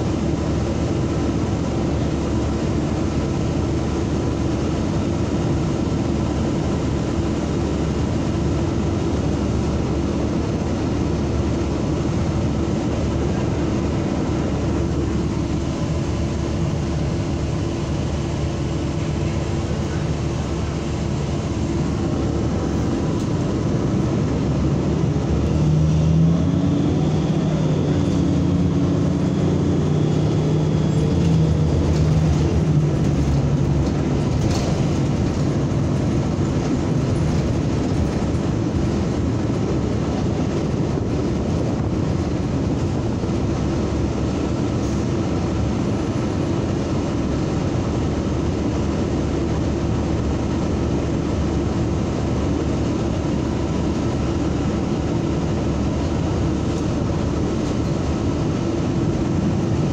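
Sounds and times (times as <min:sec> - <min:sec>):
bus engine and road noise: 0:00.0 - 0:59.9.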